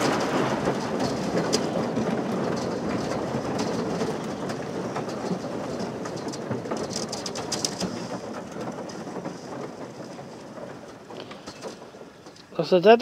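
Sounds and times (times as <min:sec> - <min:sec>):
ice crackling against boat hull: 0:00.0 - 0:12.7.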